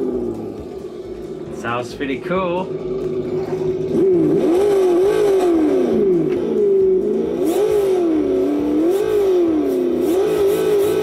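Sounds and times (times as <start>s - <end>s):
engine sound revving: 0.0s - 11.0s.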